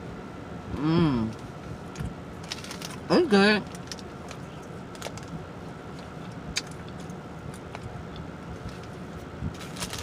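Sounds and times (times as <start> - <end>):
car air conditioning blowing: 0.0 - 10.0.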